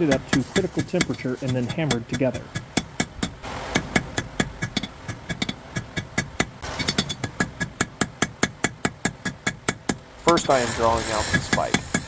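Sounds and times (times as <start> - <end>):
hammer blows on hot steel: 0.0 - 12.0.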